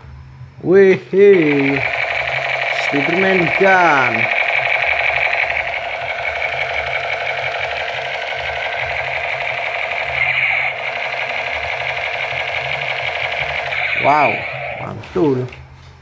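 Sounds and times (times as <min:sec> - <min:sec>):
toy gun electronic buzzing rattle: 0:01.0 - 0:15.0.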